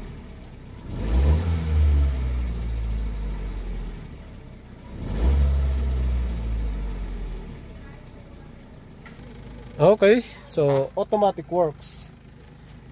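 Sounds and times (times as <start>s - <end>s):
car engine revving from idle: 0.0s - 10.6s.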